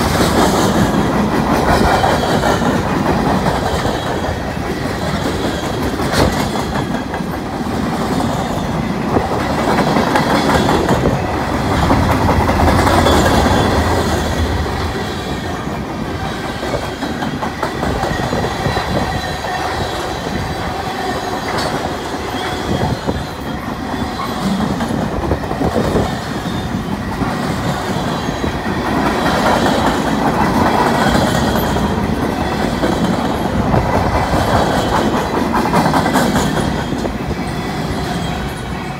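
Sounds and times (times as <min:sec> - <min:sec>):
clickety-clack over rail joints: 0:00.0 - 0:38.9
freight train wheels rumbling on rail: 0:00.0 - 0:38.9.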